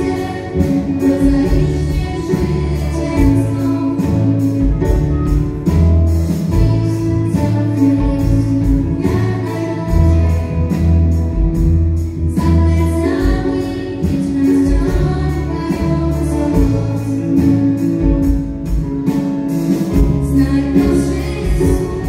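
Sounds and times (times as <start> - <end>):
drum kit: 0.0 - 22.0
keyboards: 0.0 - 22.0.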